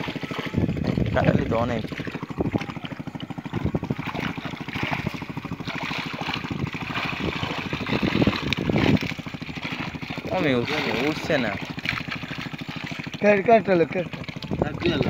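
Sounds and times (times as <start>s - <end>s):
fast low pulsing: 0.0s - 15.0s
water splashing and sloshing: 0.0s - 15.0s.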